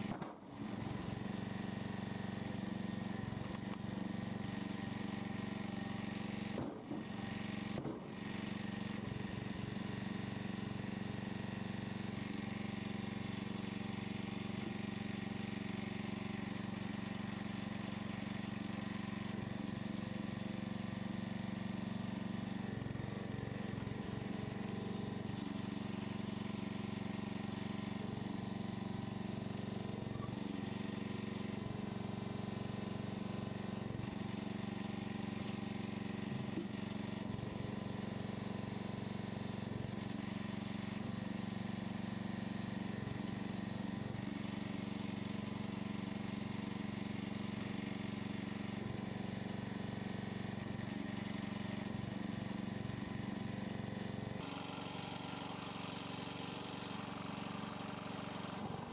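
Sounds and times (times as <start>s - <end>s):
engine running steadily: 0.0s - 58.9s.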